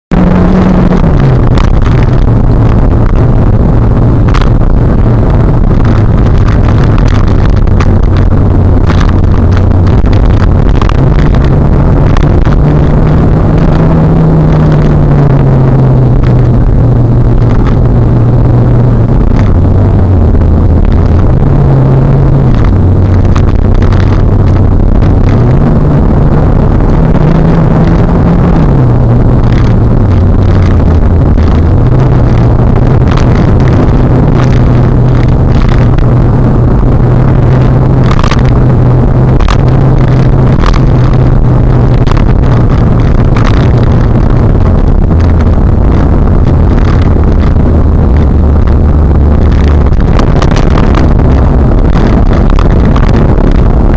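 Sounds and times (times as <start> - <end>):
car engine drone: 0.0 - 53.9
road and wind noise: 0.0 - 53.9.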